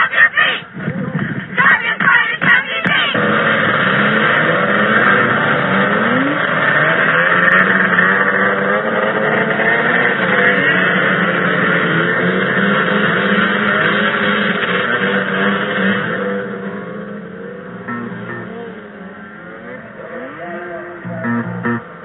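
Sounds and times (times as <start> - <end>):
snowmobile engines revving: 0.0 - 22.0.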